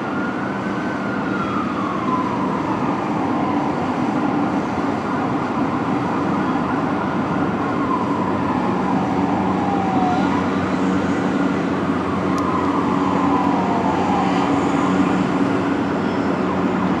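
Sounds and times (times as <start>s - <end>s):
engine and traffic rumble: 0.0s - 17.0s
fire truck siren wailing: 0.0s - 17.0s.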